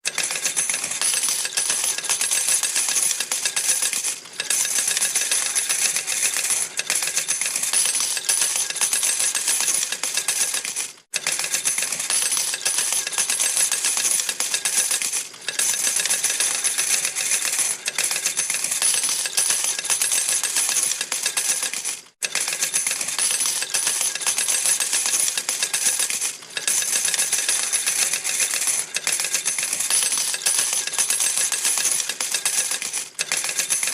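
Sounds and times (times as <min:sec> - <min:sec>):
coins clattering into metal tray: 0:00.1 - 0:33.9.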